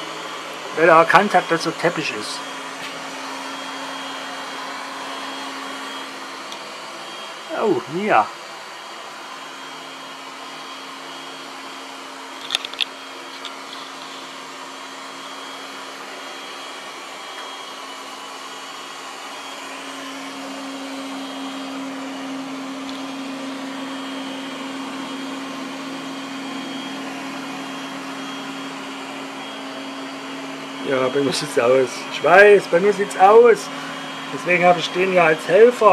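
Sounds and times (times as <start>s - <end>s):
robot vacuum humming: 0.0s - 35.9s.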